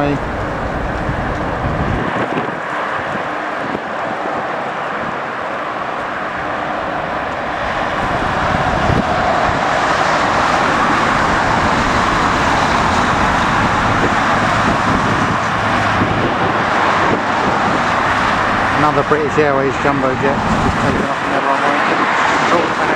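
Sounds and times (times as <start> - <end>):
jet engines taking off: 0.0 - 22.9.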